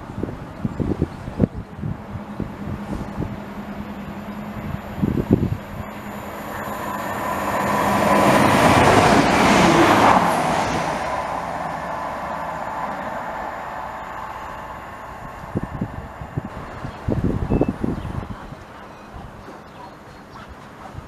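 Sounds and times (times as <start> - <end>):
train passing at speed: 0.0 - 21.0
wind gusts on microphone: 0.0 - 21.0.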